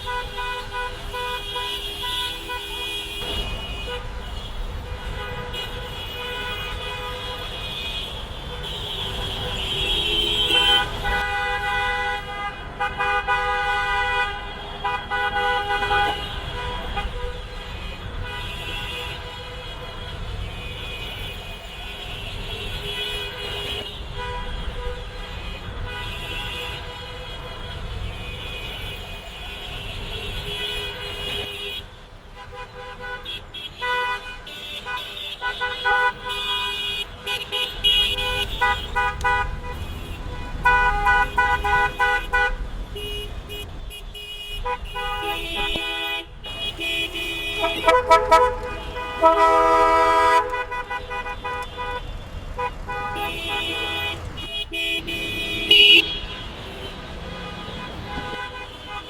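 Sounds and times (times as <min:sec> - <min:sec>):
car horns honking: 0:00.0 - 0:59.0
low rumble of traffic: 0:00.0 - 0:59.0.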